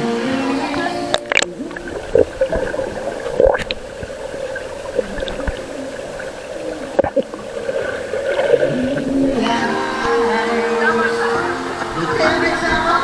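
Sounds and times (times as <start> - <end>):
water gurgling and splashing: 0.0 - 13.0.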